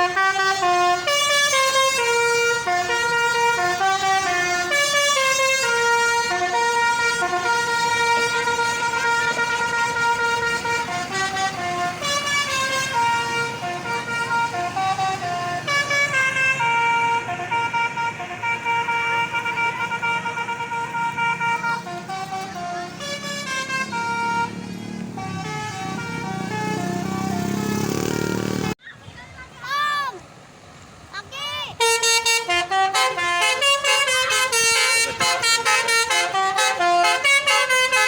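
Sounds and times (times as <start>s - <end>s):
bus horn playing a tune: 0.0s - 28.8s, 31.8s - 38.0s.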